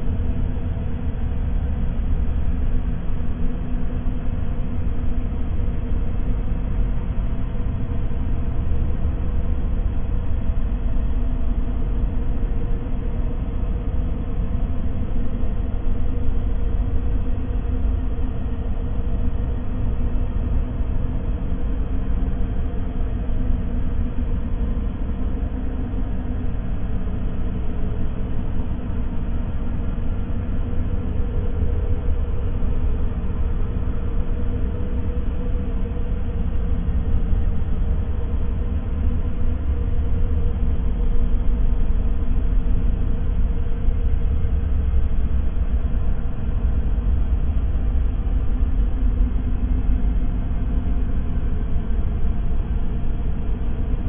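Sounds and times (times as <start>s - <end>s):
faint steady hum: 0.0s - 54.0s
low rumbling noise: 0.0s - 54.0s.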